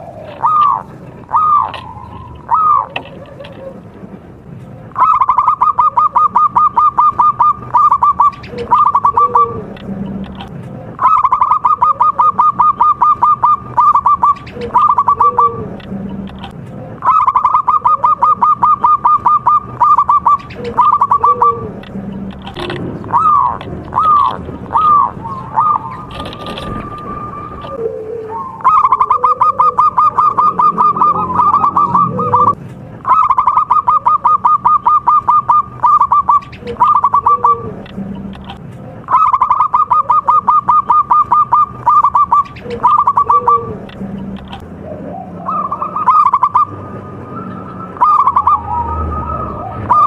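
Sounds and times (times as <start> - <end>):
soft low bird coos: 0.0 - 3.9, 4.9 - 50.0
bird song of rapid repeated notes: 0.0 - 4.0, 4.7 - 26.8, 28.3 - 50.0.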